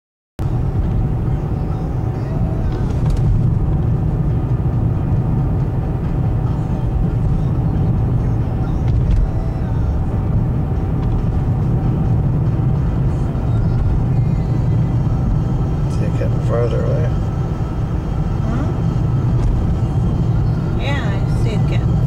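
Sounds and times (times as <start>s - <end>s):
car engine and tyre rumble: 0.4s - 22.0s.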